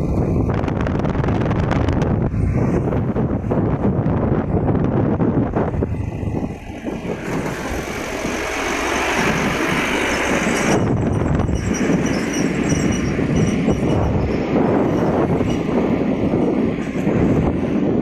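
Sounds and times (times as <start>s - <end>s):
road and wind noise: 0.0s - 18.0s
pickup truck passing: 1.3s - 18.0s.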